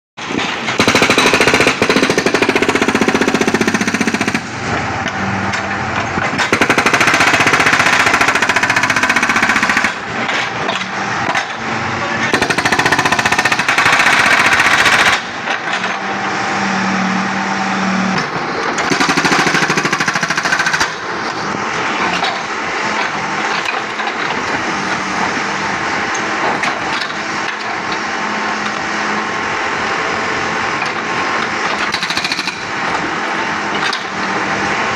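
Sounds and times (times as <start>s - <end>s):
hydraulic breaker hammering: 0.2s - 11.4s, 12.3s - 16.0s, 18.1s - 28.7s, 30.8s - 34.2s
machine noise: 0.2s - 34.9s.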